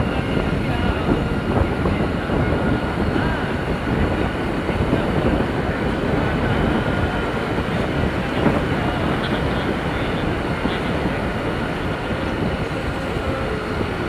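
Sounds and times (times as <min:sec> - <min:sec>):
road noise: 0:00.0 - 0:14.0
vehicle travel rumble: 0:00.0 - 0:14.0
wind: 0:00.0 - 0:14.0.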